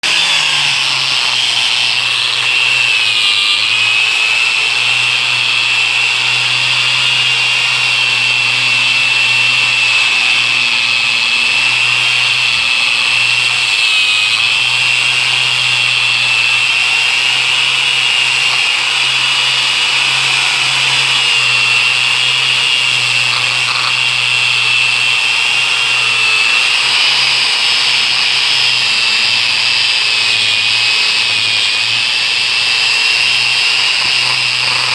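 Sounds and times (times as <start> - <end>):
angle grinder whining: 0.0 - 34.9.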